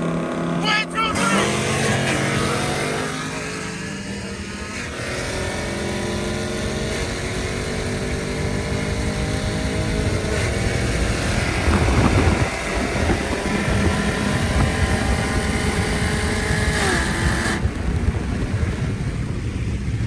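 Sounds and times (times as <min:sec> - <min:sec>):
race car engine revving: 0:00.0 - 0:18.5.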